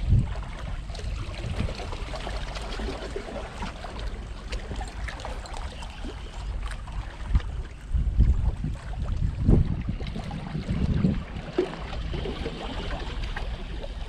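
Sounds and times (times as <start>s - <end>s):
water lapping among rocks: 0.0s - 14.0s
wind rumble on microphone: 0.0s - 14.0s.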